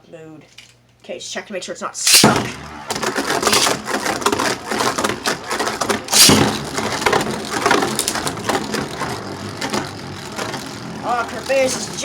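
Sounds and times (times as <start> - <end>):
spinning tops clashing in plastic stadium: 2.0 - 12.0.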